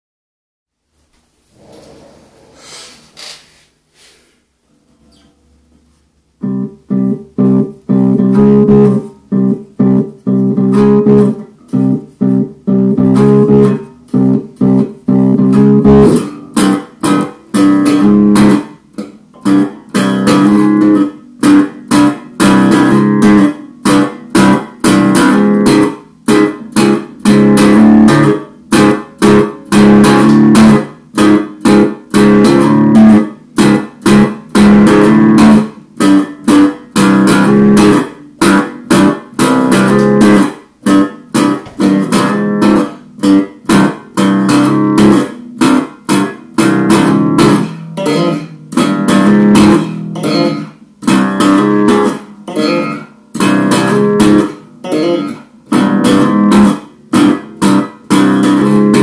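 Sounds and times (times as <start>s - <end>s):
electric bass chords: 6.4s - 59.0s.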